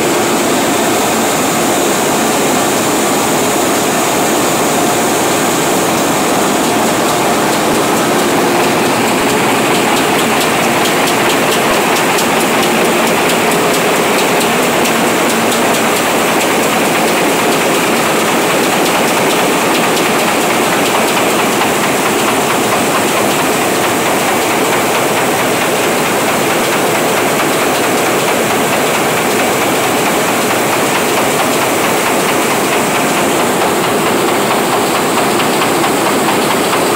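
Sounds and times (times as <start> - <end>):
printing press running: 0.0 - 36.9.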